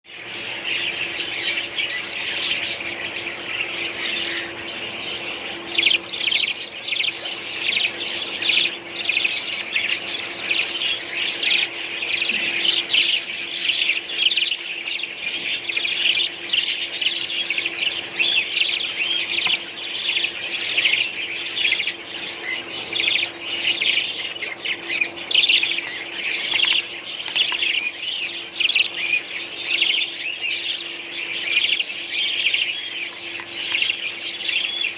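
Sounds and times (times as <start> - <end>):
budgerigars chattering and squawking: 0.1 - 34.9
faint steady hum: 0.1 - 34.9.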